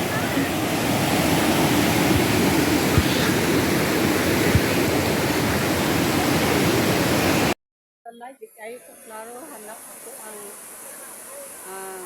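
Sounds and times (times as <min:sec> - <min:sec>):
river water rushing: 0:00.0 - 0:07.6, 0:08.9 - 0:12.0.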